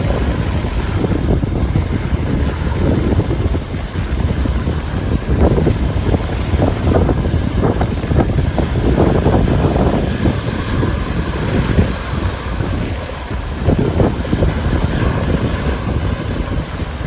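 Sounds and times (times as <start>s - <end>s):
lake waves splashing on shore: 0.0s - 17.0s
wind buffeting microphone: 0.0s - 17.0s.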